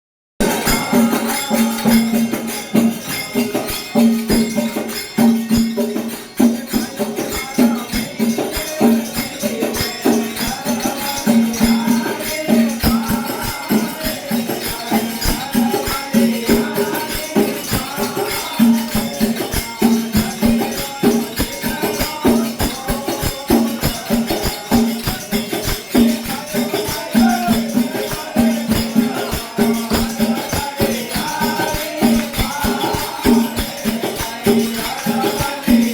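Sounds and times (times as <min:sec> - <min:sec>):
jingling shaken percussion: 0:00.4 - 0:35.9.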